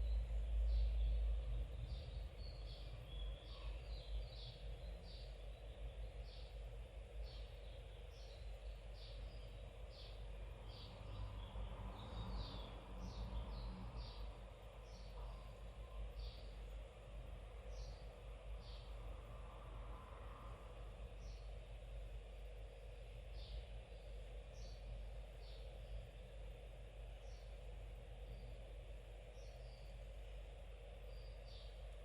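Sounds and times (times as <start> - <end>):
small birds chirping: 0.0 - 19.3, 20.8 - 32.0
low steady rumble: 0.0 - 32.0.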